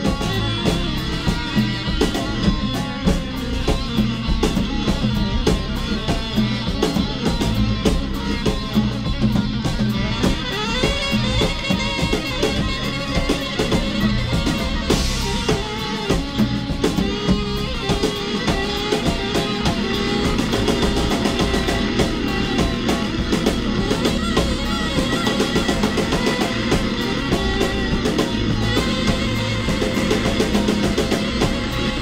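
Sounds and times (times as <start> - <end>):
free jazz band playing: 0.0 - 32.0.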